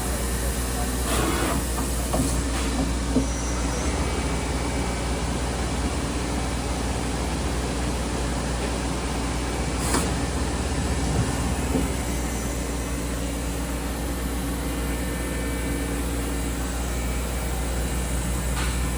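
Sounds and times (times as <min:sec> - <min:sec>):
machinery humming: 0:00.0 - 0:18.9.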